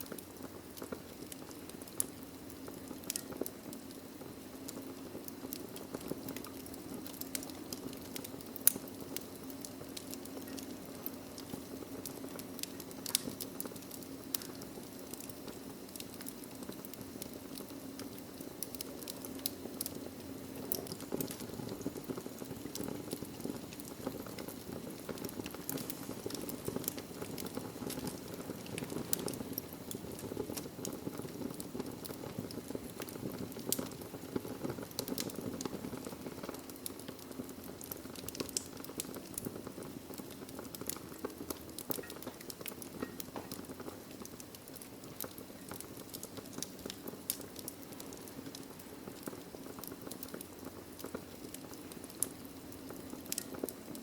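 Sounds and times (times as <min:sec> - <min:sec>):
logs crackling and popping: 0:00.0 - 0:54.0
low rush of flames: 0:00.0 - 0:54.0.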